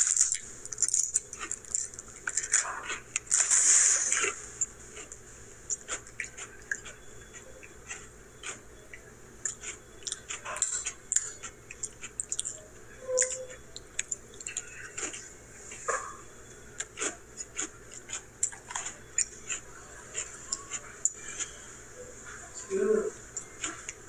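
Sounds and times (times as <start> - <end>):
person chewing crunchy cookies: 0.0 - 21.7, 23.3 - 24.0.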